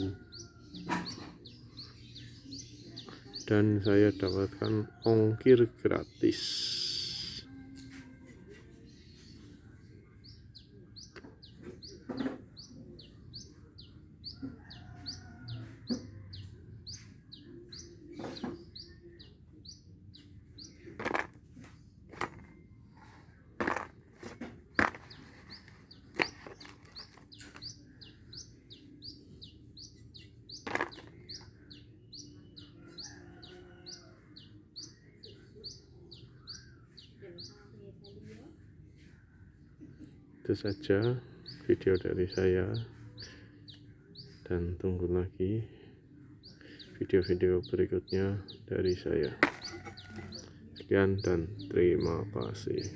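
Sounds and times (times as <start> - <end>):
small bird chirping: 0.0 - 5.3, 6.0 - 45.6, 46.4 - 52.9.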